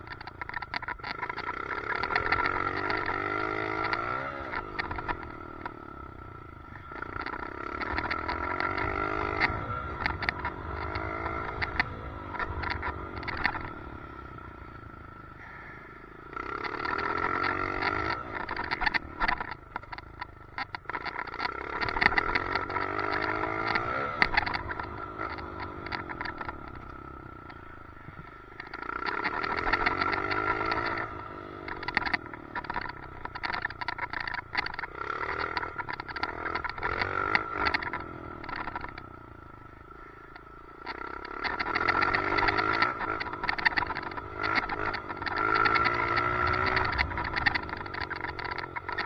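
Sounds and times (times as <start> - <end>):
rattling clicks: 0.0 - 15.4, 16.2 - 39.7, 40.3 - 49.0
dirt bike engine revving: 0.1 - 49.0.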